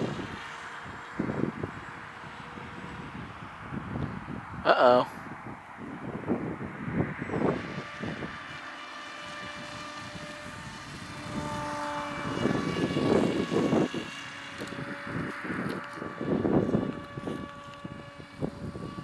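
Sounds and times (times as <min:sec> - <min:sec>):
model plane motor whine: 0:00.0 - 0:04.5, 0:05.4 - 0:19.0
wind buffeting microphone: 0:00.0 - 0:19.0.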